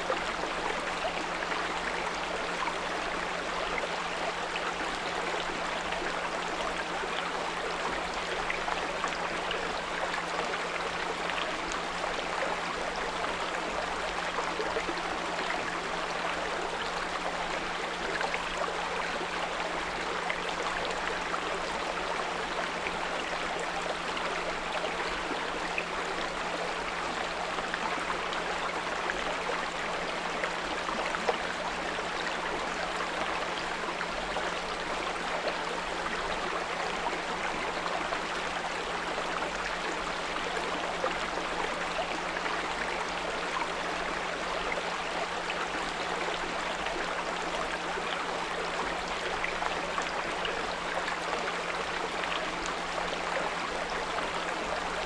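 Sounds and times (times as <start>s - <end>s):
brook babbling: 0.0s - 55.0s.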